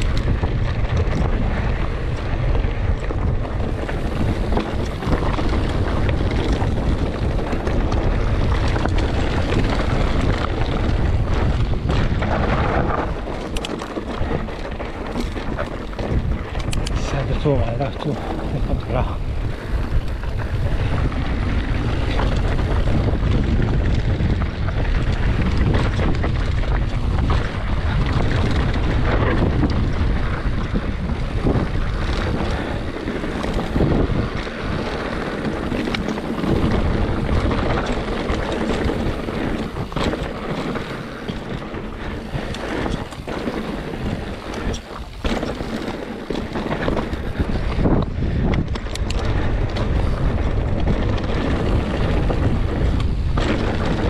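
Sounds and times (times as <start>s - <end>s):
bike knocking over stones: 0.0s - 16.9s, 17.8s - 54.0s
bike tyres rumbling on dirt trail: 0.0s - 54.0s
wind buffeting microphone: 0.0s - 54.0s.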